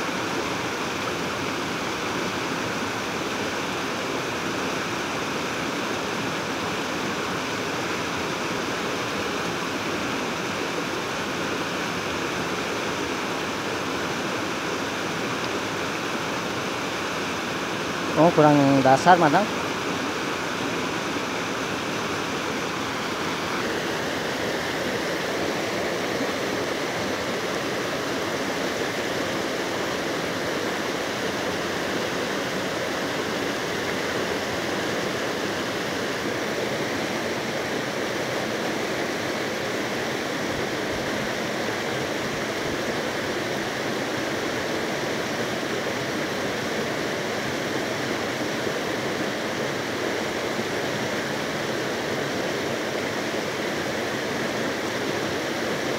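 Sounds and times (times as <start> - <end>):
river rapids rushing over rocks: 0.0 - 55.9.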